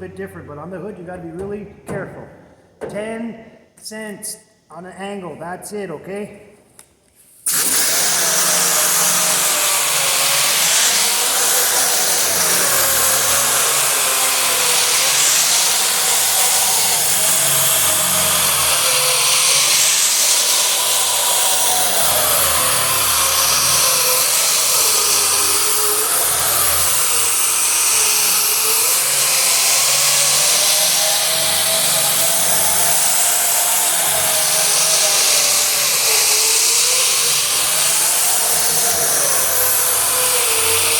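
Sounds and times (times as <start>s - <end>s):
power sander motor whining: 7.5s - 40.9s.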